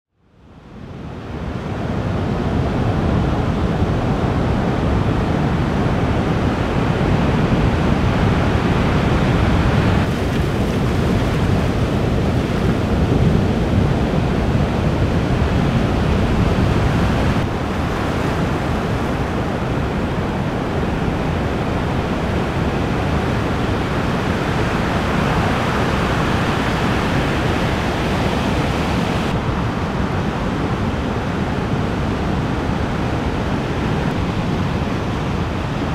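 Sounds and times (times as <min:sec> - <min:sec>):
wind buffeting microphone: 0:00.6 - 0:35.9
ocean surf breaking: 0:01.0 - 0:35.9.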